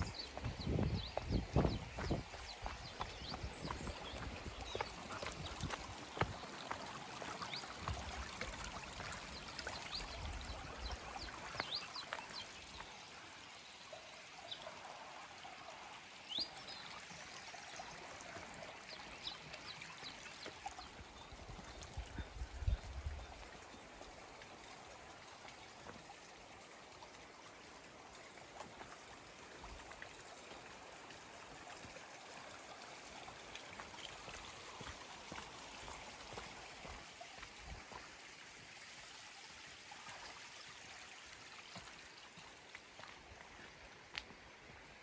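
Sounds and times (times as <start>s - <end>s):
water trickling in channel: 0.0s - 45.0s.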